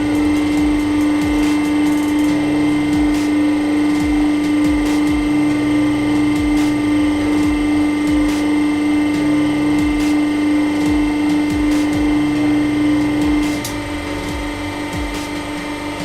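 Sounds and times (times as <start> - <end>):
hydraulic press pump hum: 0.0 - 16.0.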